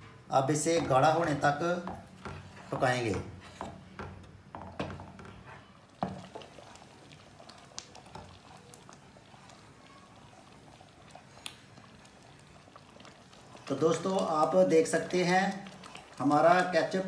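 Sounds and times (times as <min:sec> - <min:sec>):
faint bubbling sauce: 0:00.0 - 0:17.0
wooden spoon stirring sauce: 0:00.1 - 0:17.0.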